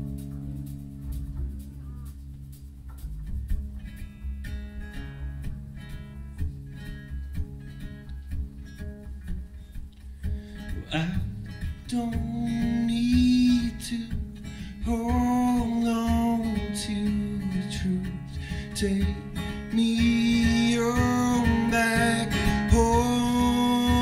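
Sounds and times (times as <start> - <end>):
drum kit: 0.0 - 24.0
strummed acoustic guitar: 0.0 - 24.0
upright bass: 0.0 - 24.0.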